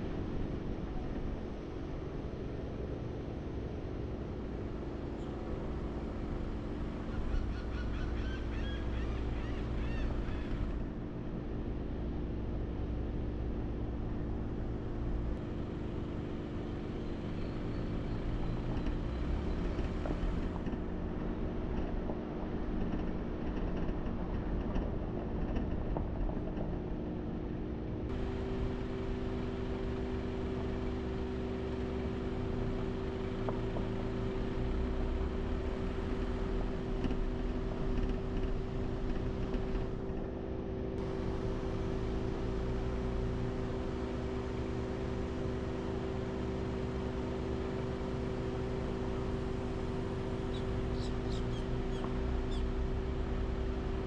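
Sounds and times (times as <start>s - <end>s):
vehicle hum with road noise: 0.0s - 54.0s.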